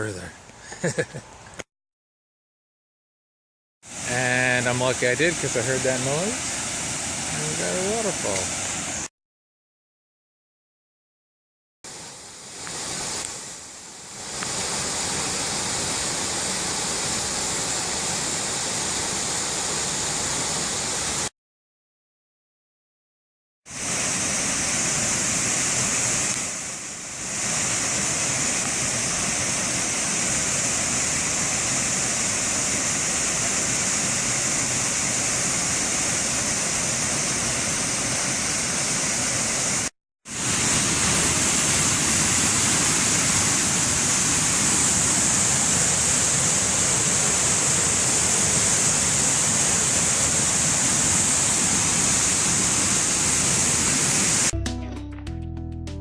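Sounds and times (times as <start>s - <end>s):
waterfall rushing: 3.9s - 9.1s, 11.9s - 21.3s, 23.7s - 54.5s.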